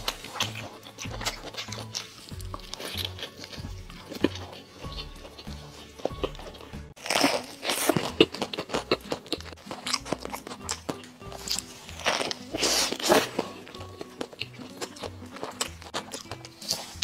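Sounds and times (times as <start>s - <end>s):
background music: 0.0s - 17.0s
chewing crunches: 0.0s - 17.0s
crunching bites of flatbread: 0.0s - 17.0s.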